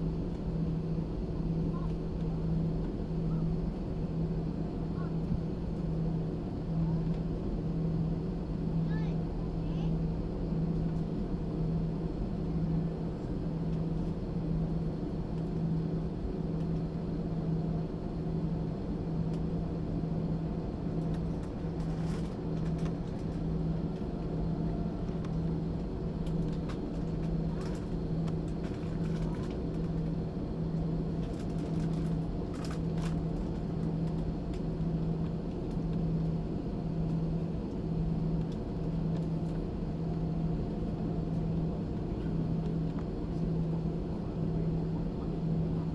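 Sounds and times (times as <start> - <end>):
jet engine drone in cabin: 0.0 - 45.9.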